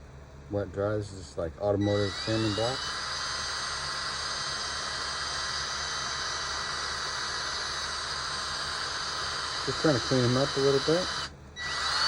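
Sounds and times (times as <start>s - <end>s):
electric drill motor whine: 1.8s - 12.0s.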